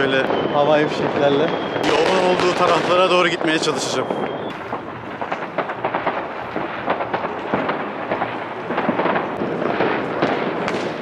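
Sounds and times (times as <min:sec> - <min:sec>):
fireworks and firecrackers crackling: 0:00.0 - 0:11.0.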